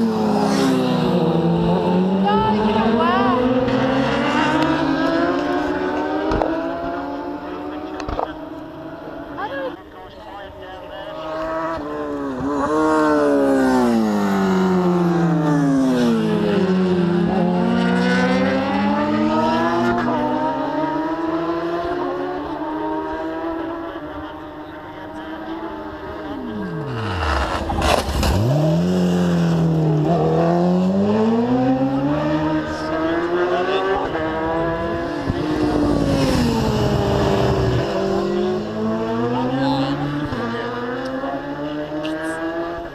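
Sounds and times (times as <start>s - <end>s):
racing motorcycles passing: 0.0s - 42.9s.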